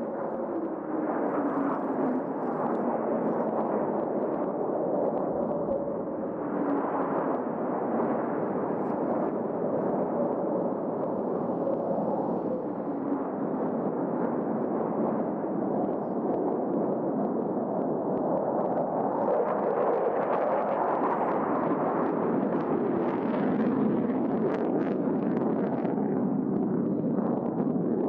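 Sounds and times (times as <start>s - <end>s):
aircraft rumbling roar overhead: 0.0s - 28.0s.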